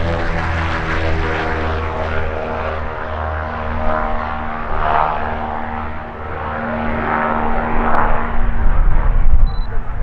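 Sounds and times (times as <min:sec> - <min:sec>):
propeller plane flying low: 0:00.0 - 0:10.0.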